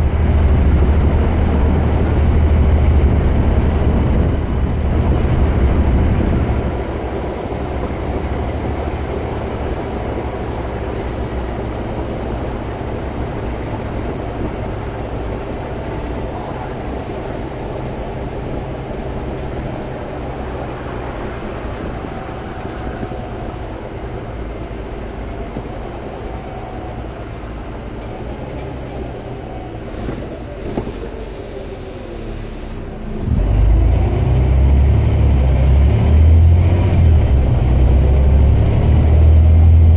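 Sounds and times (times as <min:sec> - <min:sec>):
bus diesel engine rumble: 0:00.0 - 0:39.9.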